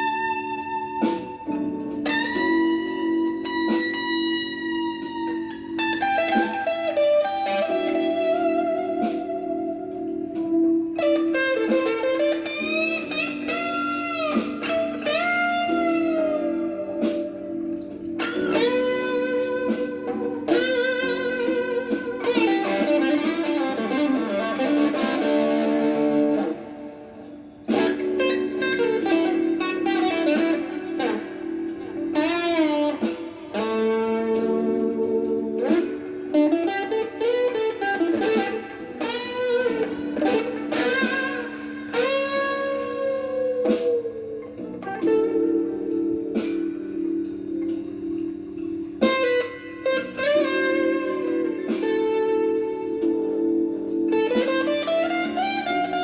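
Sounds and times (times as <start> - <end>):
electric guitar blues lead: 0.0 - 56.0.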